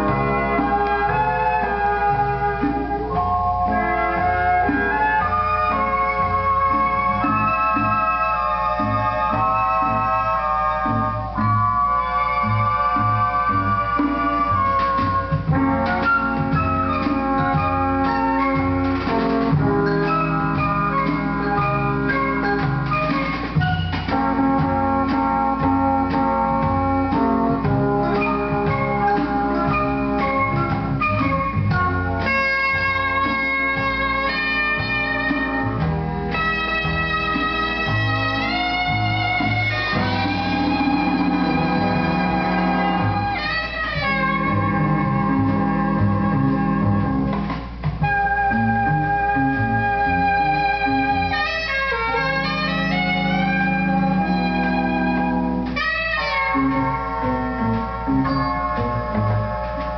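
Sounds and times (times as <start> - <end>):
easy-listening orchestra music: 0.0 - 59.9
organ sustained chords: 0.0 - 59.9
walking bass line: 0.0 - 59.9.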